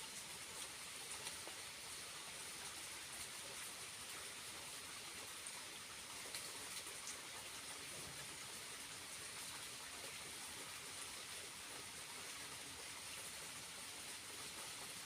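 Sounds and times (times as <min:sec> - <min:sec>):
small waterfall running: 0:00.0 - 0:15.0.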